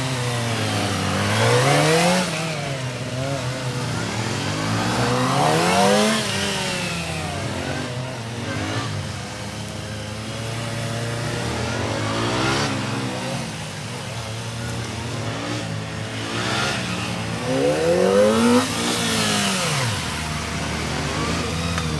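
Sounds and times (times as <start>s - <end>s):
motorcycle engine revving: 0.0s - 21.9s.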